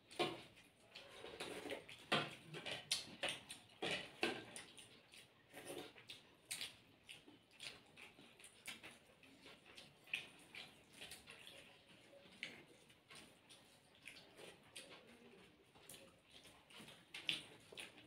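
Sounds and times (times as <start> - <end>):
wet chewing and mouth smacks: 0.0 - 18.0.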